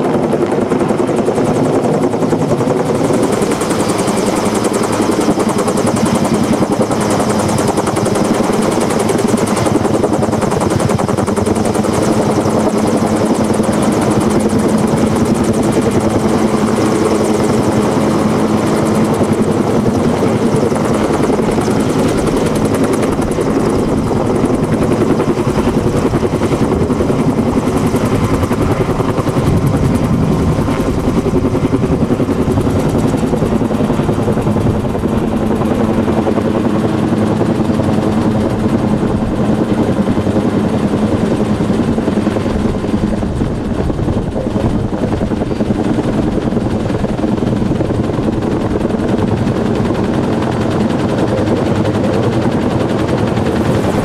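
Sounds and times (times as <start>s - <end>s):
helicopter rotor beating: 0.0s - 54.0s.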